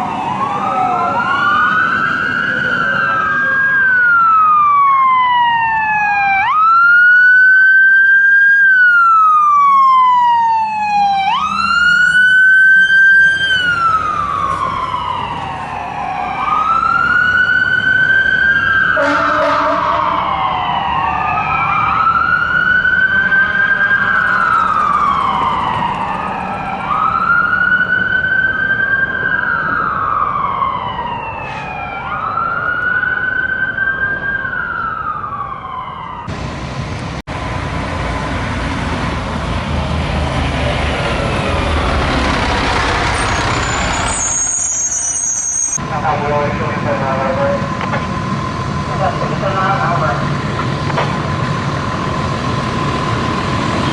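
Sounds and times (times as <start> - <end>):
fire truck siren wailing: 0.0 - 53.9.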